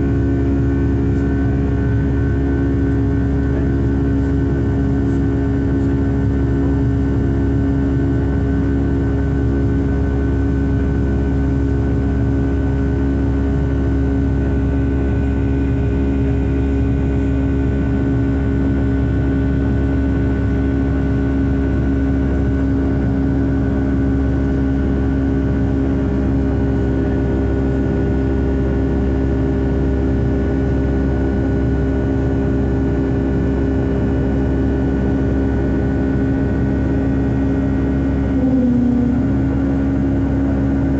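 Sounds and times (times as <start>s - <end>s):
jet engines humming in cabin: 0.0s - 40.9s.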